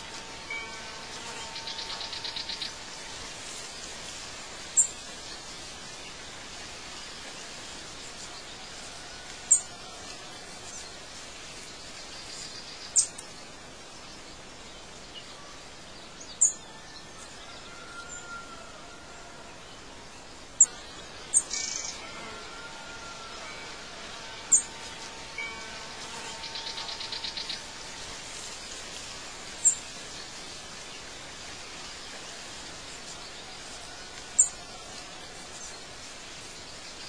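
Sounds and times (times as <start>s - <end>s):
steady outdoor hiss: 0.0s - 37.0s.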